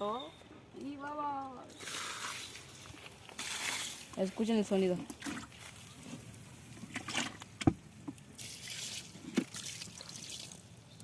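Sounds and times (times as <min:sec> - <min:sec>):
hot embers hissing and sizzling: 0:01.6 - 0:11.0.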